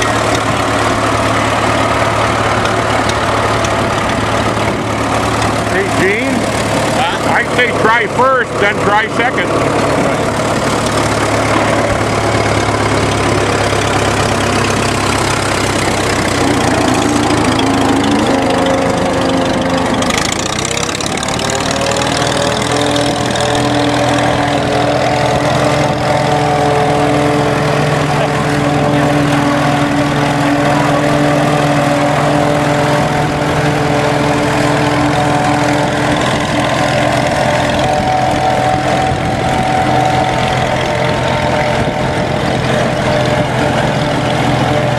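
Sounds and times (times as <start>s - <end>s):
pitched whine: 0.0s - 44.9s
tractor engine running: 0.0s - 44.9s.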